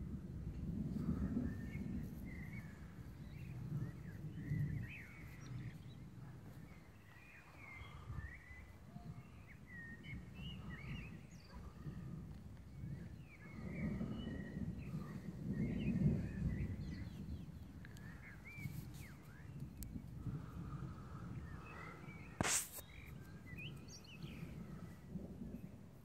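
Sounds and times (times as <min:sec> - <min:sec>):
songbirds singing: 0:01.0 - 0:26.0.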